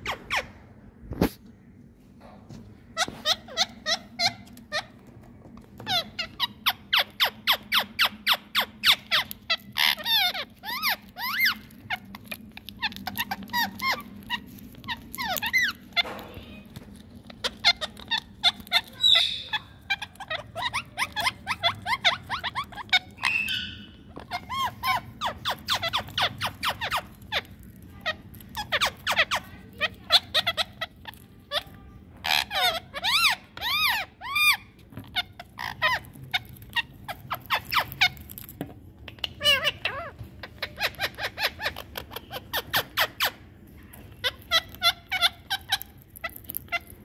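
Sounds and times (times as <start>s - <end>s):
parakeets chirping: 0.0s - 0.6s, 2.9s - 47.0s.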